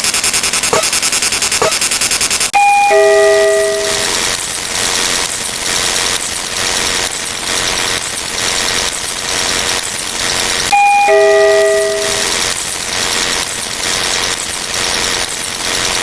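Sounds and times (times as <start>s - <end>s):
machine running with pulsing noise: 0.0s - 16.0s.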